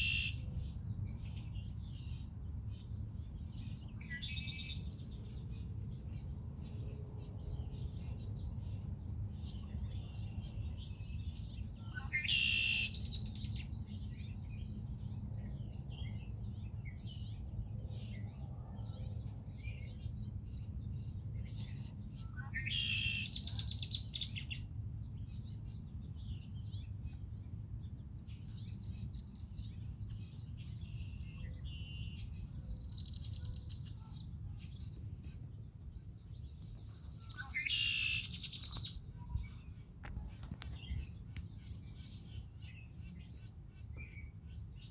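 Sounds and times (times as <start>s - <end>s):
buzzy trilled bird songs: 0.0s - 44.9s
soft bird chirps: 0.0s - 44.9s.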